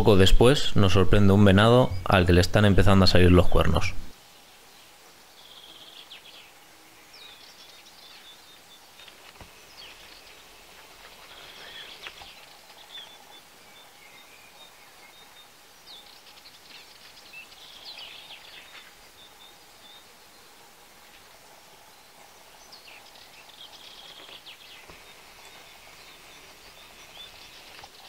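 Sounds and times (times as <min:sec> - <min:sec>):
faint steady hiss: 0:00.0 - 0:28.0
songbirds chirping and singing: 0:00.0 - 0:28.0.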